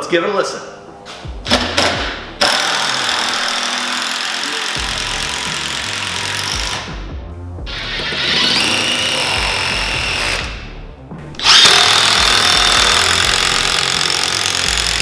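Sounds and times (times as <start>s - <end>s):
impact driver whining: 1.5s - 6.9s, 7.7s - 10.8s, 11.4s - 15.0s.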